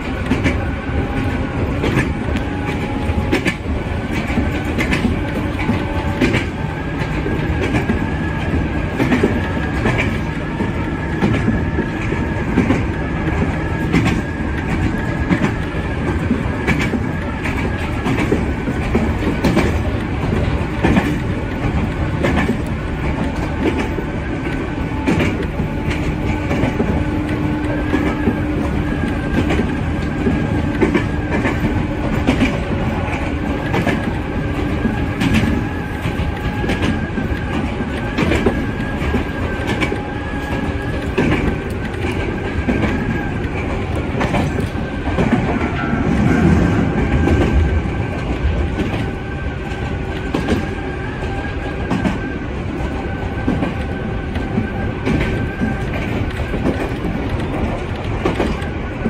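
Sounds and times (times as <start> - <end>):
train rumble: 0.0 - 59.0
wheels clacking over rail joints: 0.0 - 59.0.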